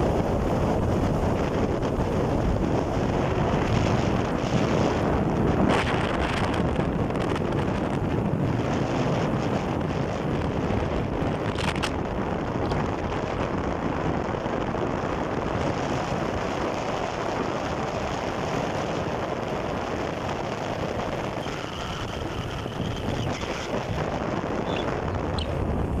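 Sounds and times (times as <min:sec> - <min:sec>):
road noise: 0:00.0 - 0:26.0
rushing wind on microphone: 0:00.0 - 0:26.0.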